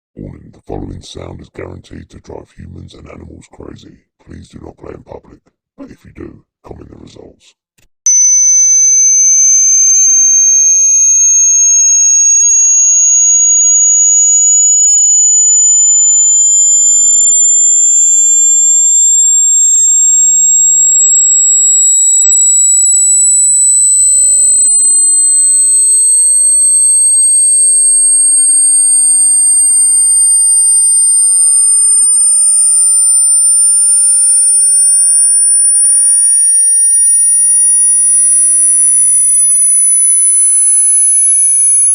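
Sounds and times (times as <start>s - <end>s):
high-pitched rising sine tone: 8.1s - 41.9s.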